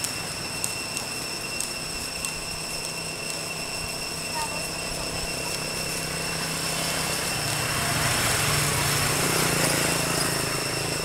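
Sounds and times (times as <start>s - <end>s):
high-pitched ringing: 0.0s - 11.0s
small engine running: 0.0s - 11.0s.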